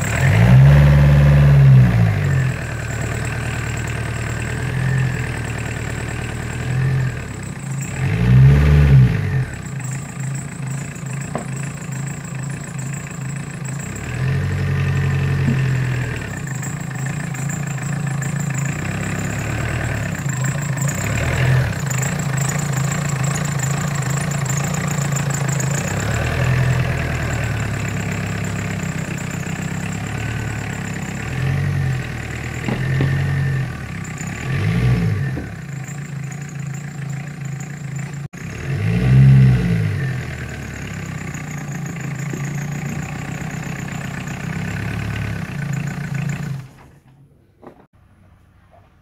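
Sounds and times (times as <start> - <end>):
car engine idling and revving: 0.0 - 47.1.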